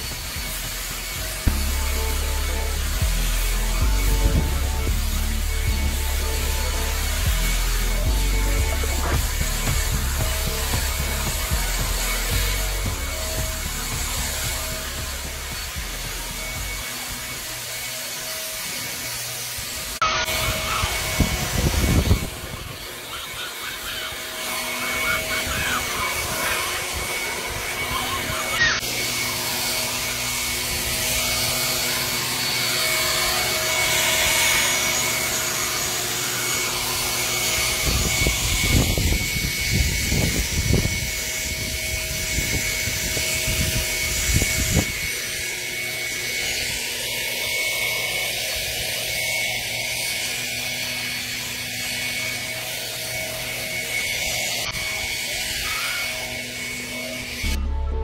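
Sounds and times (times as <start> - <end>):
electric leaf blower running: 0.0 - 58.0.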